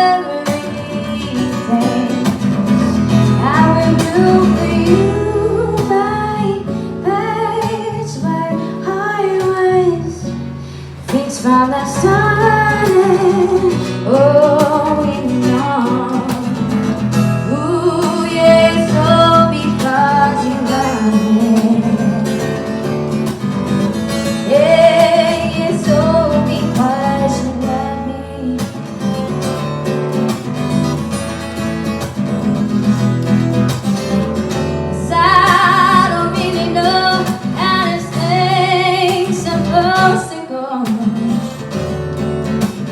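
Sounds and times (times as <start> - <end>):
woman singing: 0.0 - 22.8, 24.2 - 29.4, 34.9 - 41.8
strummed acoustic guitar: 0.0 - 42.9.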